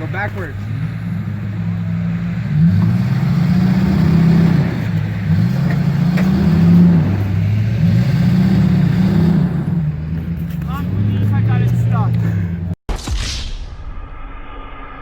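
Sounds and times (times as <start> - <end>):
truck engine revving: 0.0 - 12.8.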